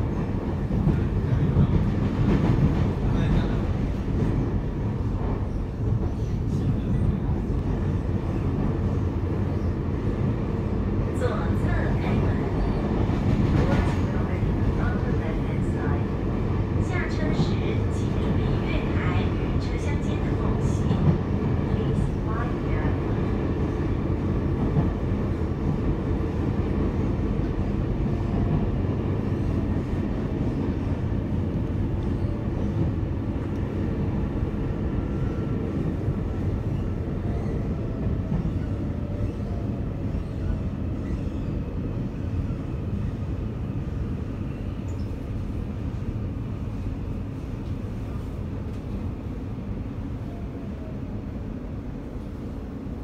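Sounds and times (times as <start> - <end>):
train running gear rumble: 0.0 - 53.0.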